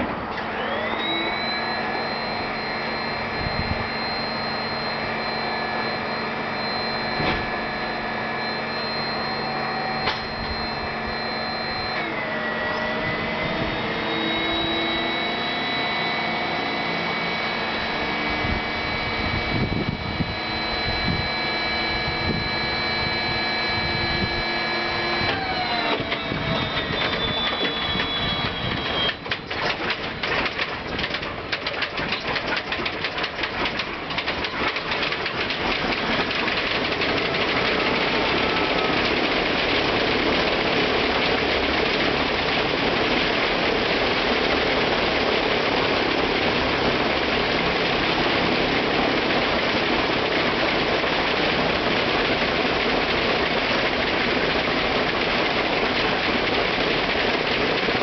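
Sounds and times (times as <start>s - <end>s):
radial engine starting: 0.0s - 58.0s.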